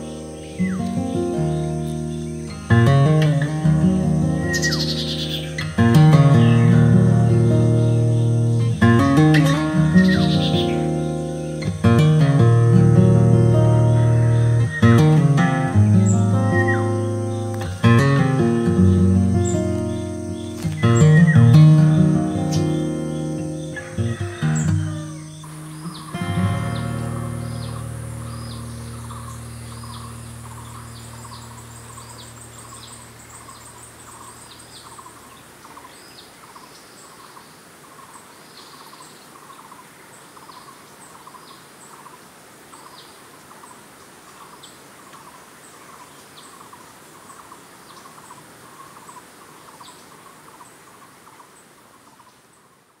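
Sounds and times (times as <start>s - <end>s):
insects and birds calling: 0.0s - 53.0s.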